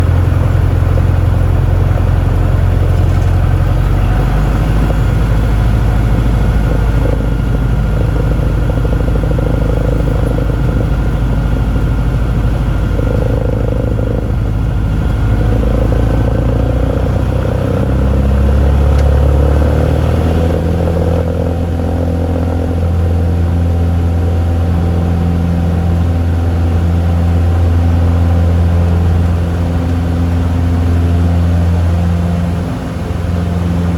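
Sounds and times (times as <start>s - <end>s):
propeller plane engine drone: 0.0s - 33.9s.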